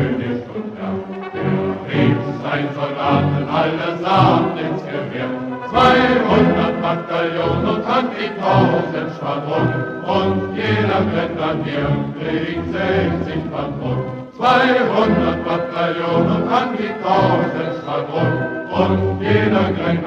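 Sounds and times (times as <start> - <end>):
choir singing a folk song: 0.0 - 20.0.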